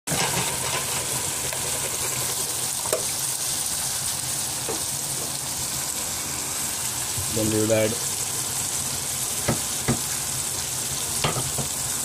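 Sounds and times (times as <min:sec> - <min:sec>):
vegetables sizzling in oil: 0:00.1 - 0:12.0.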